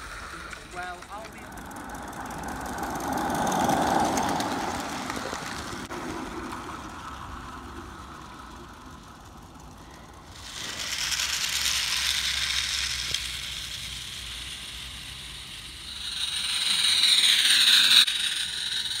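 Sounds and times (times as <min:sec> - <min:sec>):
model train wheels rattling: 0:00.0 - 0:19.0
train passing hiss: 0:00.0 - 0:19.0.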